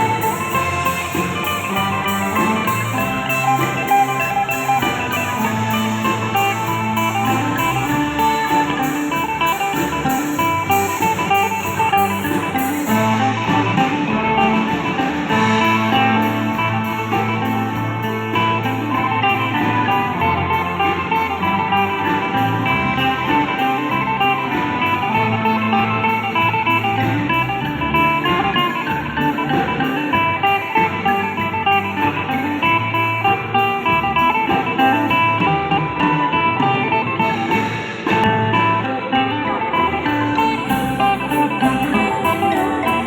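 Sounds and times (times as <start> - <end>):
folk ensemble playing: 0.0 - 43.0.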